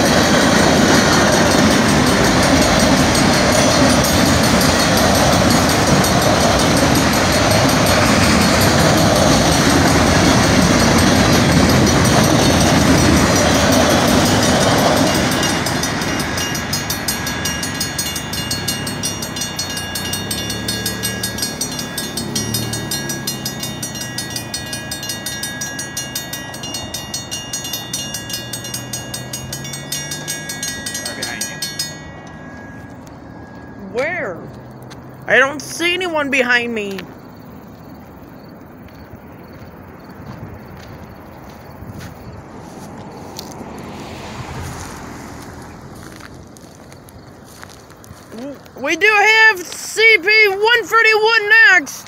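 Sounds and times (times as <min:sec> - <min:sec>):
crossing signal bell ringing: 0:00.0 - 0:40.1, 0:47.5 - 0:52.0
freight train cars rumbling: 0:00.0 - 0:52.0.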